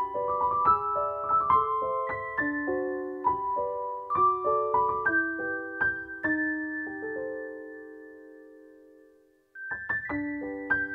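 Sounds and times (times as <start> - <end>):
piano melody: 0.0 - 10.9.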